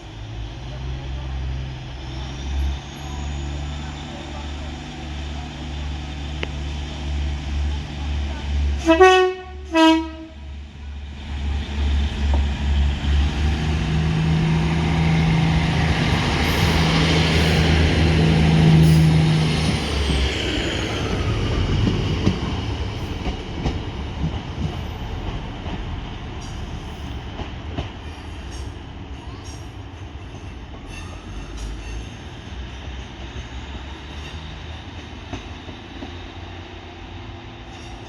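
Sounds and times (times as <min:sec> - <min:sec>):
train engine droning: 0:00.0 - 0:38.0
wheels rumbling on track: 0:00.0 - 0:38.0.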